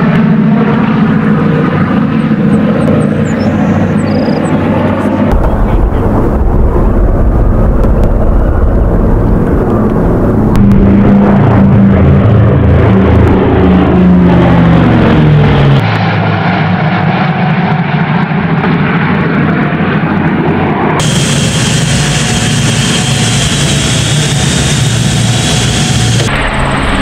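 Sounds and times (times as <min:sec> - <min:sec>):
cockpit engine noise: 0:00.0 - 0:27.0
propeller plane engines droning: 0:00.0 - 0:27.0.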